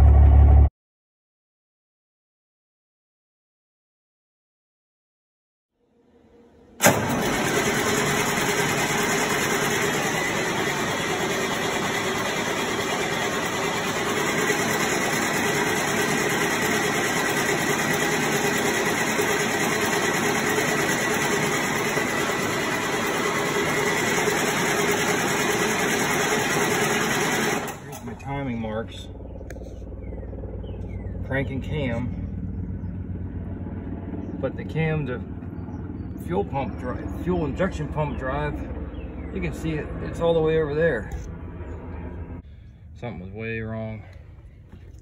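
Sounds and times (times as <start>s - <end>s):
diesel engine running: 0.0s - 0.7s, 6.1s - 45.0s.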